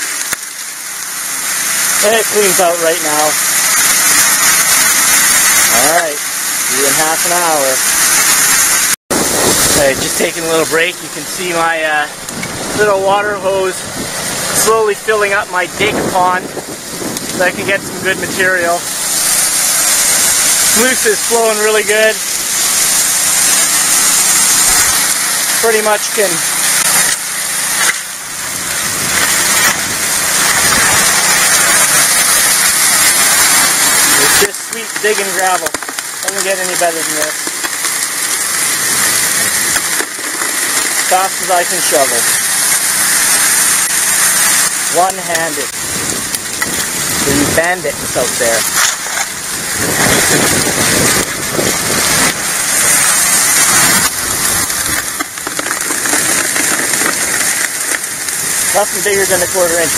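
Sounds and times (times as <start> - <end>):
gravel and rocks dumped: 0.0 - 59.9
water rushing and splashing: 0.0 - 59.9.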